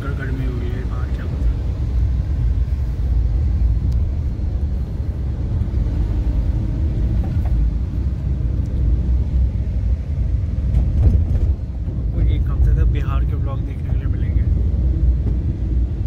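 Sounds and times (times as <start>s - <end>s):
car cabin engine and road rumble: 0.0s - 16.0s.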